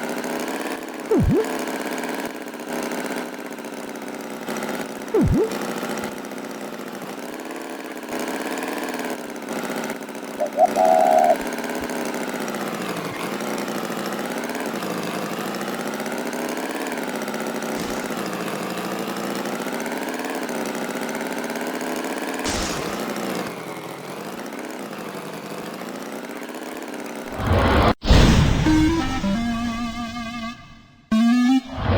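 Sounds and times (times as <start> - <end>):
small engine running: 0.0 - 27.8.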